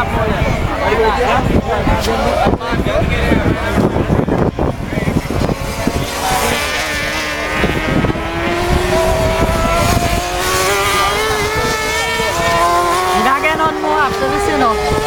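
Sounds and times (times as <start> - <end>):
low buffeting: 0.0 - 15.0
racing motorcycle engines accelerating: 0.0 - 15.0.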